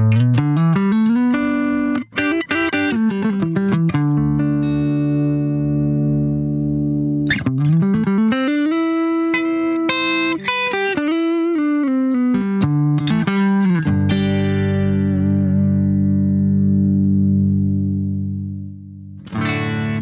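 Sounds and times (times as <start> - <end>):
electric guitar chords and notes: 0.0 - 20.0.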